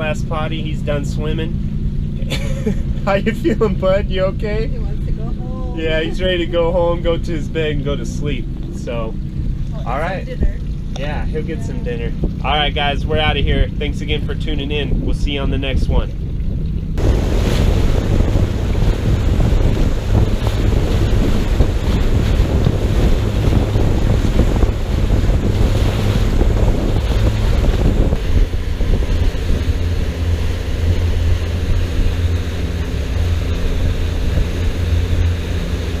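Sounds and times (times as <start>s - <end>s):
outboard motor droning: 0.0s - 36.0s
water rushing past: 2.8s - 36.0s
wind buffeting the microphone: 4.8s - 36.0s.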